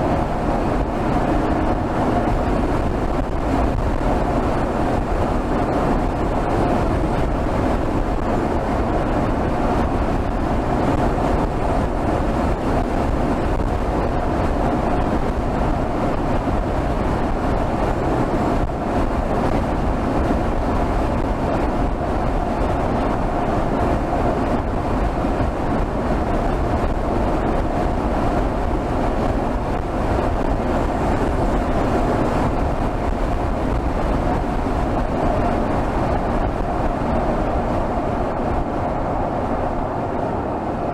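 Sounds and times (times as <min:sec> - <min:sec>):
car engine running: 0:00.0 - 0:40.9
road and wind noise: 0:00.0 - 0:40.9.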